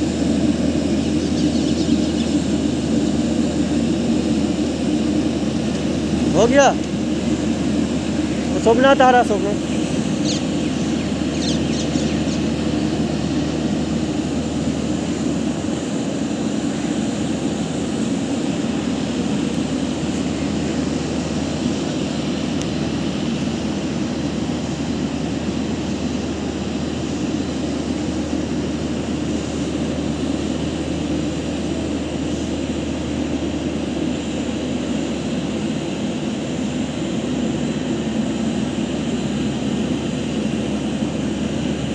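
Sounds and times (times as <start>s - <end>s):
jet engine idling with whine: 0.0s - 41.9s.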